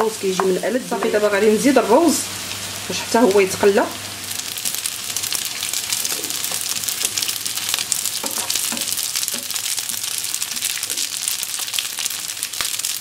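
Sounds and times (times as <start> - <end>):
rice sizzling in oil: 0.0 - 13.0.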